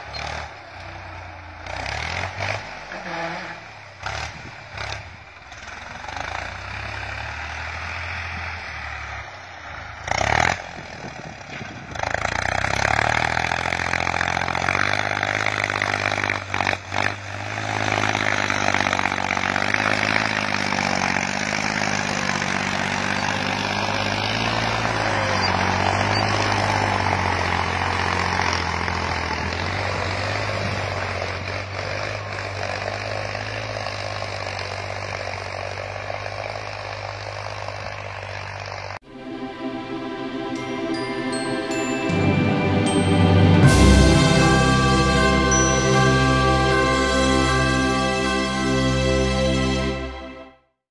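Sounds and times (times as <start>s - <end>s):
tractor diesel engine under load: 0.0s - 50.4s.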